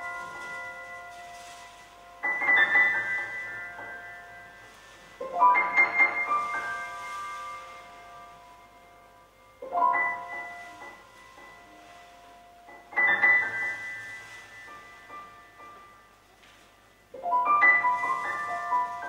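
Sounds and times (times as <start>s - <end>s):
high keyboard chords ringing: 0.0s - 19.0s.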